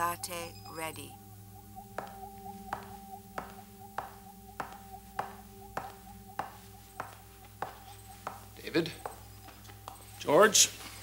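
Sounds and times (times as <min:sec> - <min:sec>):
humming drone: 0:00.0 - 0:11.0
footsteps on hard floor: 0:01.9 - 0:11.0.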